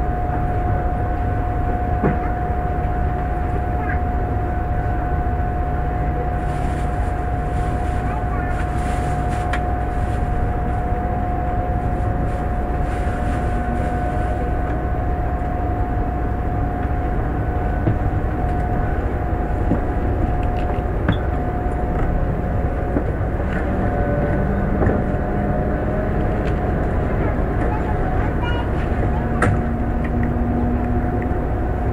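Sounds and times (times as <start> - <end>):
mid-pitched whine: 0.0 - 31.9
train interior rumble: 0.0 - 31.9.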